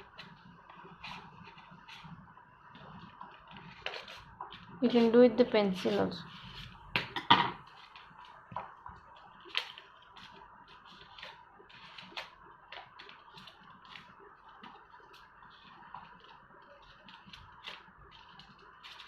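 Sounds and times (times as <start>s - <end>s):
paper rustling and crinkling: 2.7s - 19.0s.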